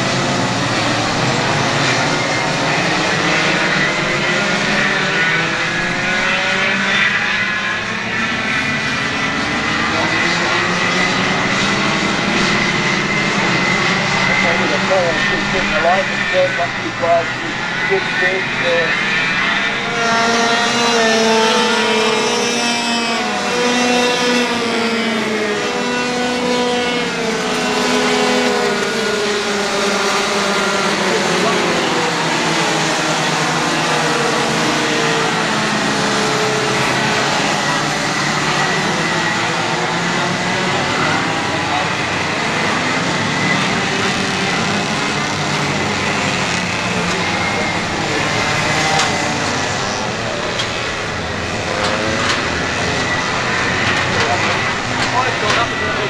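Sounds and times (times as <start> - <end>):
go-kart engines at high revs: 0.0 - 56.0.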